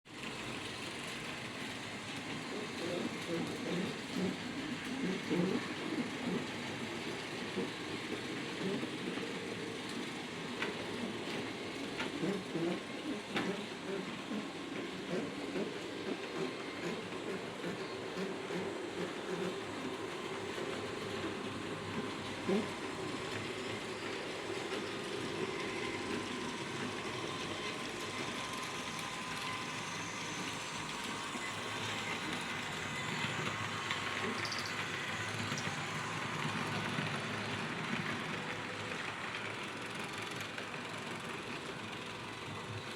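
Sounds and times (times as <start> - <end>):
model train motor and wheel rumble: 0.1 - 42.9.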